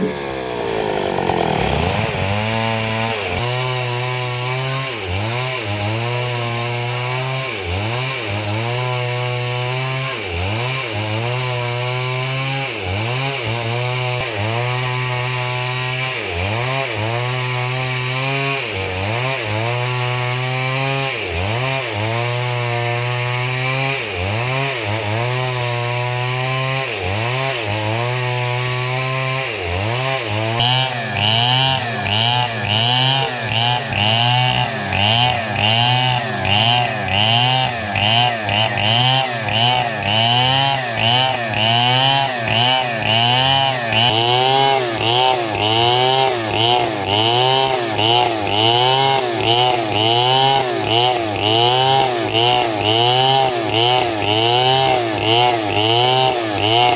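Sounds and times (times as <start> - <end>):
chainsaw sawing wood: 0.0 - 56.9.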